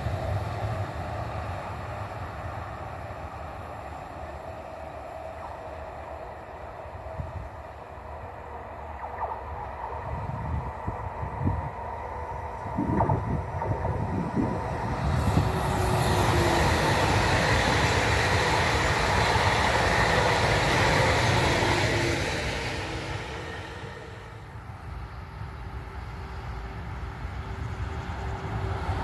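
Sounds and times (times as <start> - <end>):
high-speed train rushing past: 0.0 - 29.0.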